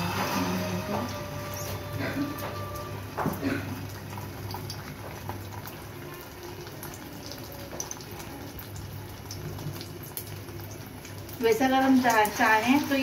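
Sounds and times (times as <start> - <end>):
kabab sizzling in hot oil: 0.0 - 13.0.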